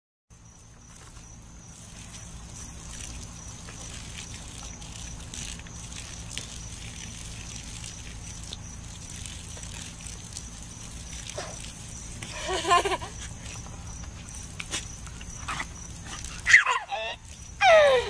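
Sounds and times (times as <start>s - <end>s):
low steady hum: 0.4s - 18.0s
water splashing from garden hose: 0.4s - 18.0s.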